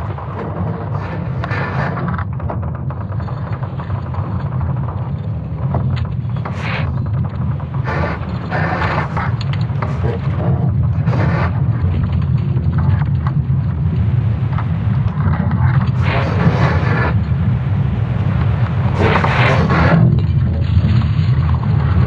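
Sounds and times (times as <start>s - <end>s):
creaking and crackling bursts: 0.0s - 22.0s
deep steady rumble: 0.0s - 22.0s.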